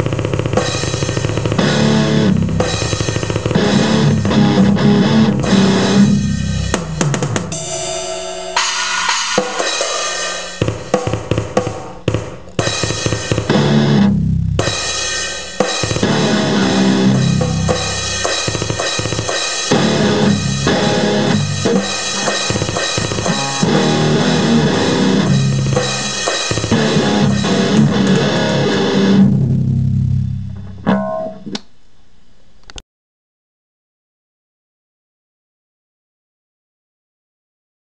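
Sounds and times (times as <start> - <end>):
instrumental band with drums and guitar: 0.0 - 31.4.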